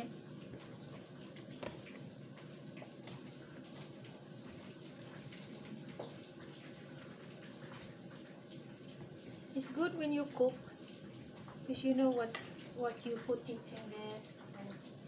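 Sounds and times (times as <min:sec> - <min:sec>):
chicken frying in oil: 0:00.0 - 0:15.0.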